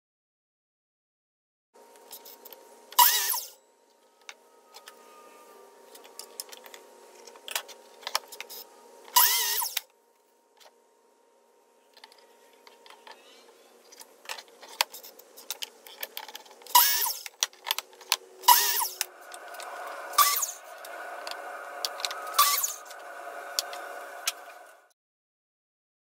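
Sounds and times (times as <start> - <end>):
steady hum: 1.8 - 24.9.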